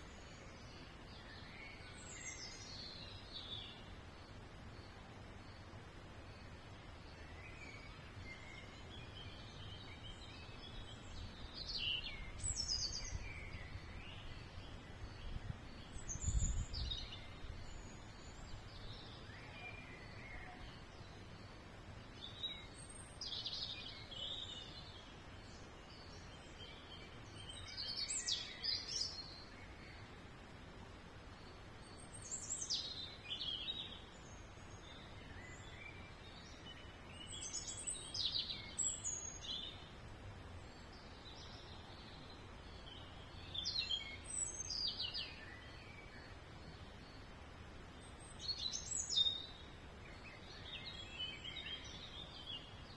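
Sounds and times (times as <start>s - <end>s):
faint background hiss: 0.0s - 52.9s
songbirds chirping: 0.0s - 52.9s.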